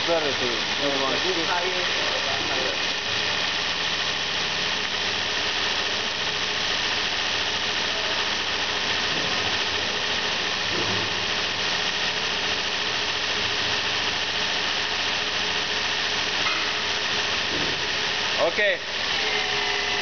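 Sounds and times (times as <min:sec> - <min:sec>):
high hiss: 0:00.0 - 0:20.0.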